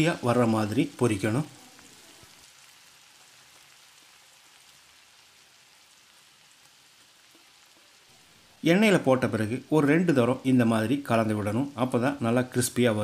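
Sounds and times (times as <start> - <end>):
coconut frying in hot oil: 0.0 - 13.0.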